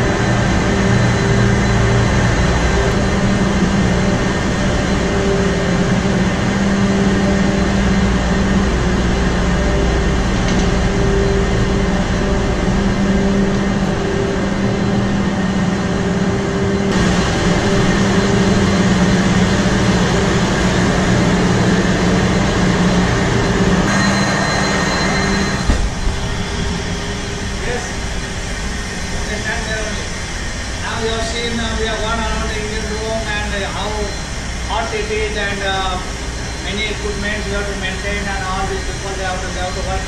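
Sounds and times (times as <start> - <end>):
ship engine room machinery: 0.0 - 40.0
steady hum: 0.0 - 40.0.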